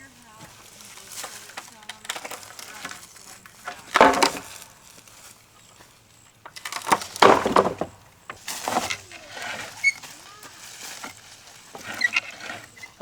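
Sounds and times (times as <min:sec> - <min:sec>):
wooden boards cracking and crunching: 0:00.0 - 0:13.0.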